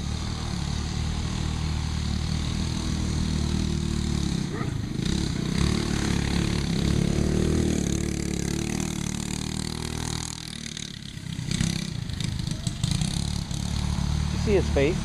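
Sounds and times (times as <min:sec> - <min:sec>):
kart engine revving: 0:00.0 - 0:15.0.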